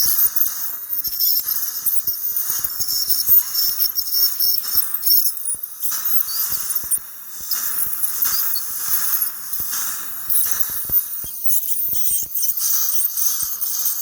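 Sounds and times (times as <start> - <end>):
ultrasonic scaler hissing: 0.0 - 14.0
dental suction: 0.1 - 14.0.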